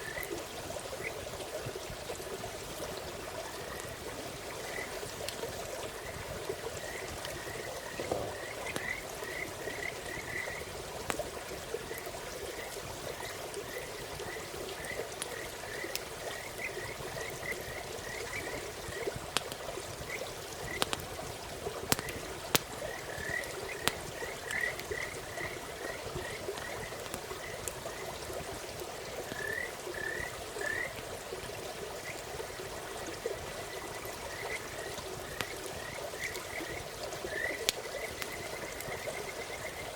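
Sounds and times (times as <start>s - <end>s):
frogs calling: 0.0s - 1.6s, 3.1s - 39.9s
campfire crackles: 0.0s - 39.9s.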